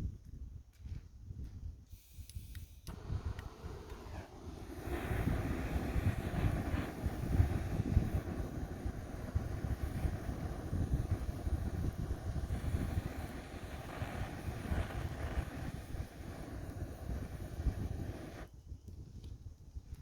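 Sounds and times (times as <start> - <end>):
wind buffeting microphone: 0.0 - 1.8, 2.9 - 20.0.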